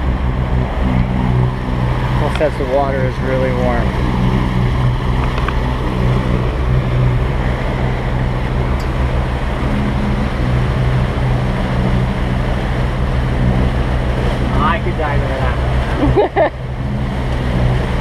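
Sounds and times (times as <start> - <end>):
boat engine drone: 0.0 - 18.0
water rushing: 0.0 - 18.0
wind: 0.0 - 18.0.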